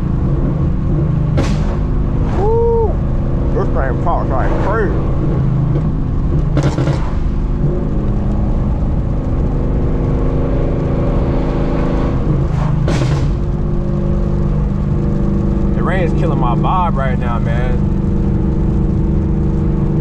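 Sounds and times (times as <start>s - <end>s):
car engine cruising: 0.0s - 20.0s.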